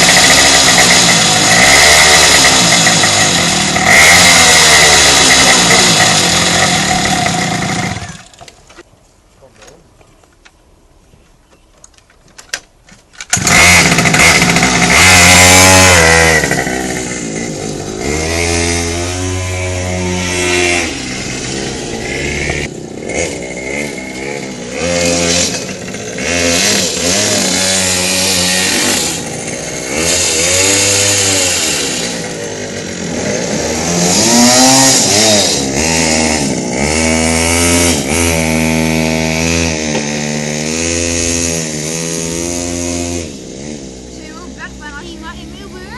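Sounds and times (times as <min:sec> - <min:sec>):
minibike engine revving: 0:00.0 - 0:08.5, 0:13.3 - 0:45.9.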